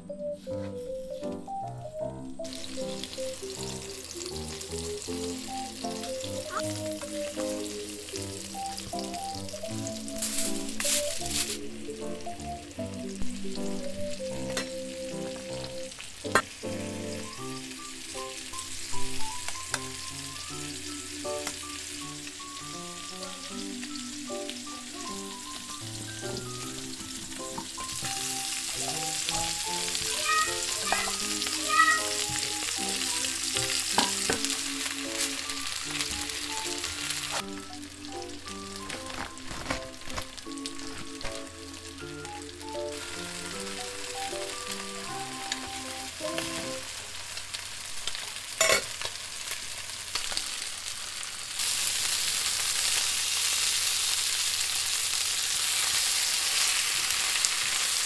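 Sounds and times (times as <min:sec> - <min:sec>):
light background music: 0:00.0 - 0:47.0
fish sizzling in a frying pan: 0:02.4 - 0:58.0.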